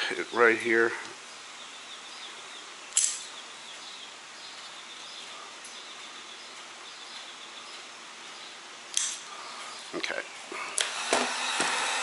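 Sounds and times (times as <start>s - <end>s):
low background hiss: 0.0s - 10.6s.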